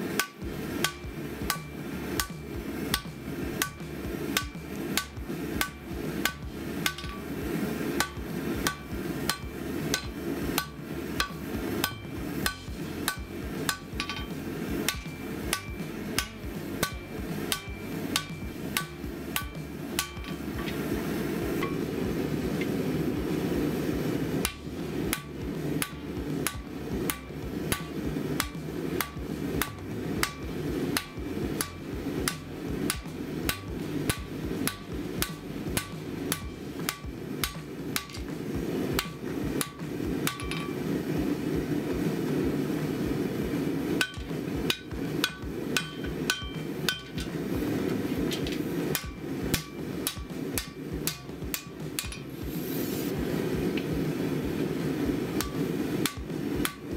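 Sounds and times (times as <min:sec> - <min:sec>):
hammer striking metal on anvil: 0:00.1 - 0:41.0, 0:43.8 - 0:56.9.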